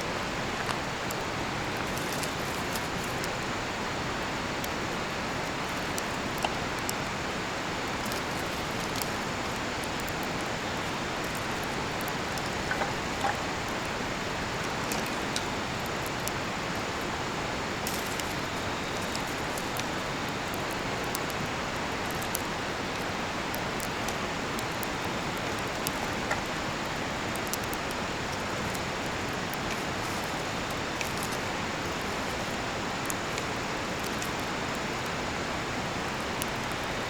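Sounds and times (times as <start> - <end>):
campfire crackling: 0.0 - 37.0.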